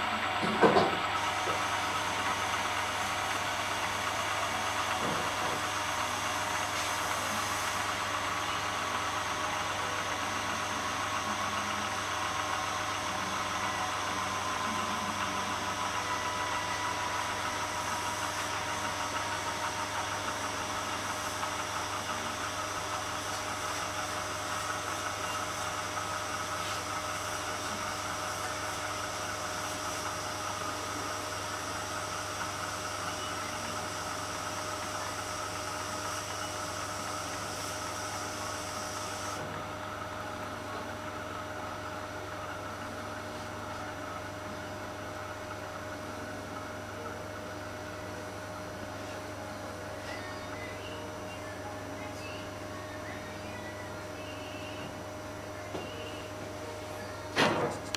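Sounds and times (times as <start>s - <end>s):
balancing machine whirring: 0.0s - 57.9s.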